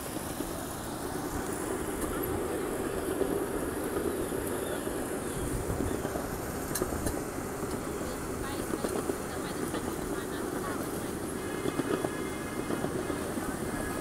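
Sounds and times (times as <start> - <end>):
ride-on train rumbling on track: 0.0 - 14.0.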